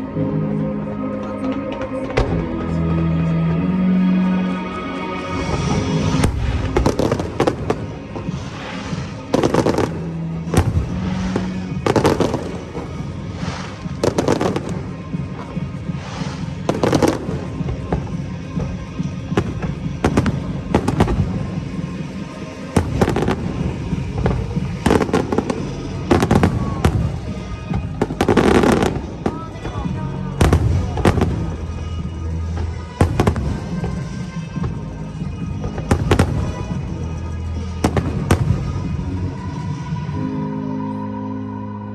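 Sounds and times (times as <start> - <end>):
music playing: 0.0 - 41.9
fireworks bursting with echo: 5.2 - 40.3.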